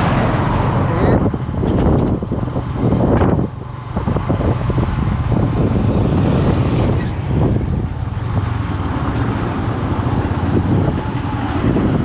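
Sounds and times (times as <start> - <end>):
vehicle engine and road noise: 0.0 - 12.0
wind on microphone: 0.0 - 12.0.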